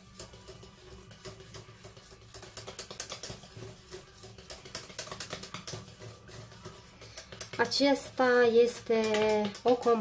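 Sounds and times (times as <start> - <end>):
whisk clicking and scraping pot: 0.0 - 10.0.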